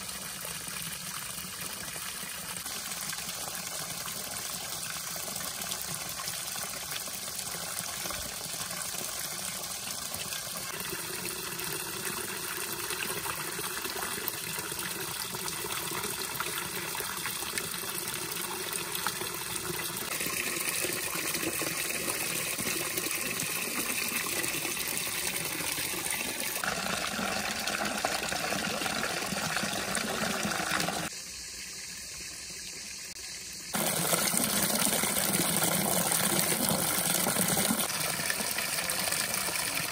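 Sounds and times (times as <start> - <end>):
water splashing into pool: 0.0 - 31.8, 32.5 - 39.9.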